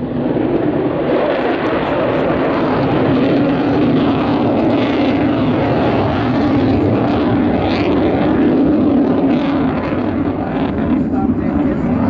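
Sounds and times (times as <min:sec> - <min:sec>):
jet engine rumble with hiss: 0:00.0 - 0:12.0.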